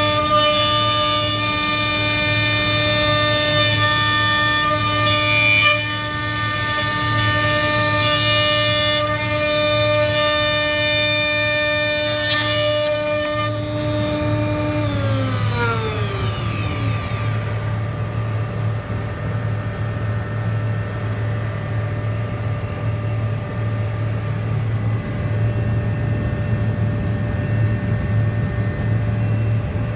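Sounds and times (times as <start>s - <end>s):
low machine hum: 0.0s - 29.9s
motor whine spinning down: 0.0s - 29.9s.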